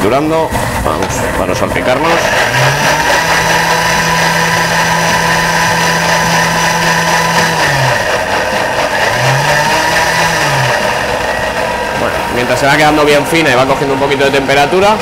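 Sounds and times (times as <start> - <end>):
blender humming: 0.0 - 15.0.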